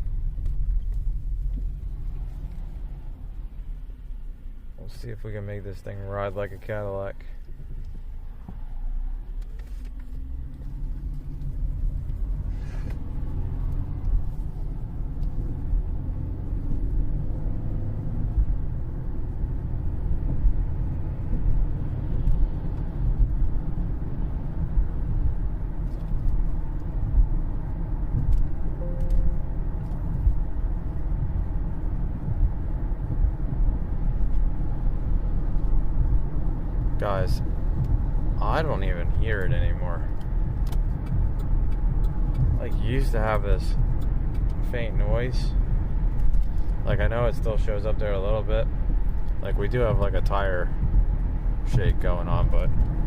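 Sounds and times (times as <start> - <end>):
road and drivetrain rumble: 0.0 - 53.0.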